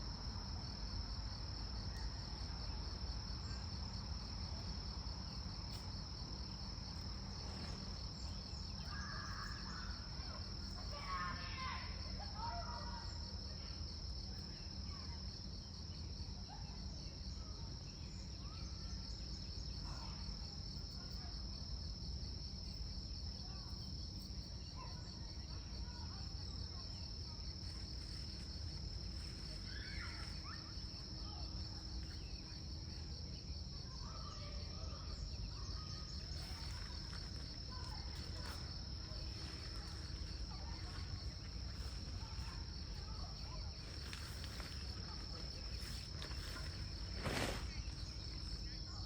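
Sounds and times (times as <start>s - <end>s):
crickets trilling: 0.0s - 49.0s.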